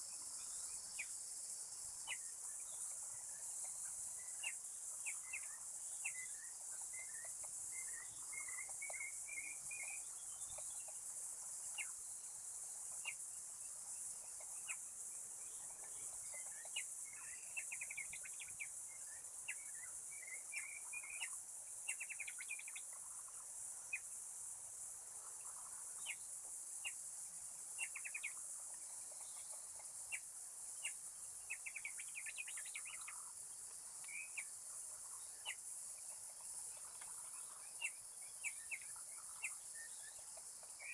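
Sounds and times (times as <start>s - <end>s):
insects droning: 0.0s - 40.9s
small birds chirping: 0.0s - 40.9s.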